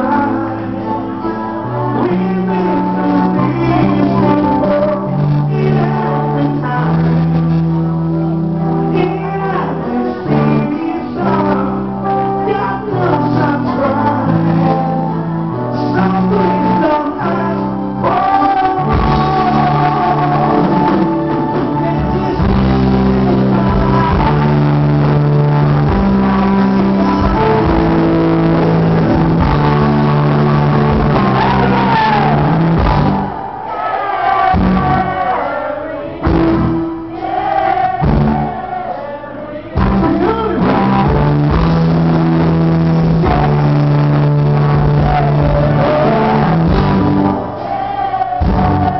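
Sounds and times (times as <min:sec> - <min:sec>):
live band playing: 0:00.0 - 0:48.9
person singing: 0:00.0 - 0:48.9.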